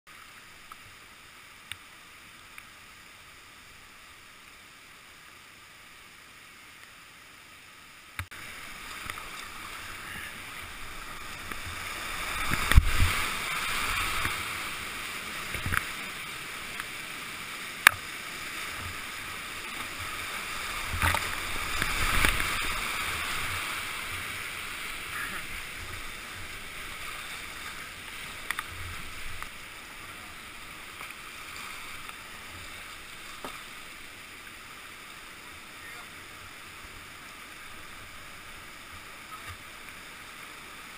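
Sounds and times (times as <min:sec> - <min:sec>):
whitewater rushing: 0:00.1 - 0:40.9.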